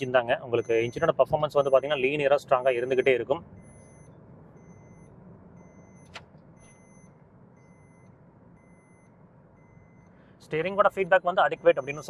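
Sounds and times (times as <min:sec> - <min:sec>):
car cabin hum: 0:00.0 - 0:12.0
seat-belt reminder beeping: 0:00.6 - 0:10.2, 0:11.5 - 0:12.0.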